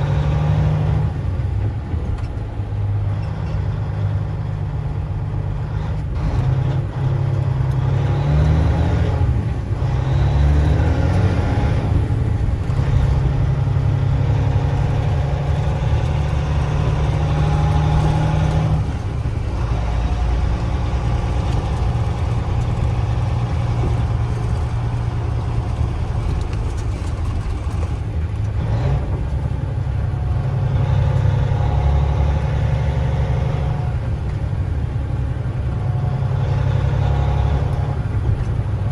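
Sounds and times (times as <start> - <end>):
road noise: 0.0 - 38.9
vehicle engine accelerating: 0.0 - 38.9.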